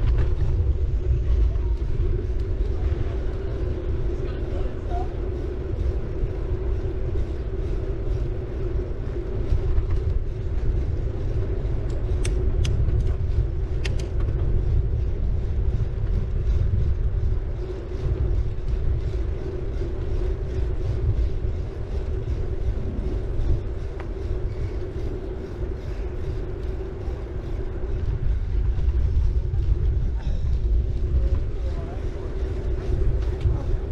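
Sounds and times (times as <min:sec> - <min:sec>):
bike tyre and wind rumble: 0:00.0 - 0:33.9
constant hum: 0:00.0 - 0:33.9.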